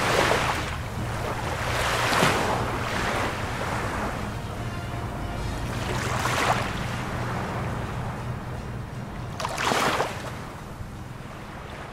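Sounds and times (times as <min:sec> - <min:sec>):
small waves breaking on shore: 0:00.0 - 0:08.3, 0:09.3 - 0:11.9.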